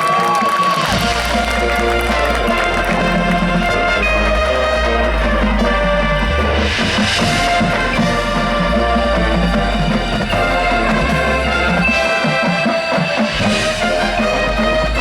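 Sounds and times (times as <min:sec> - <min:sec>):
brass chords: 0:00.0 - 0:15.0
marching band playing: 0:00.0 - 0:15.0
percussion: 0:00.0 - 0:15.0.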